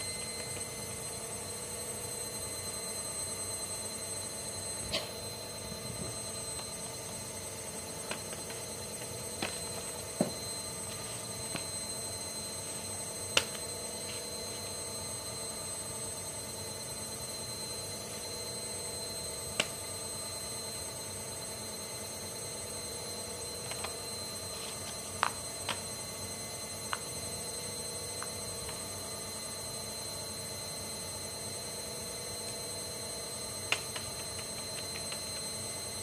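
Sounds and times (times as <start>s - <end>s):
faint high whine: 0.0s - 36.0s.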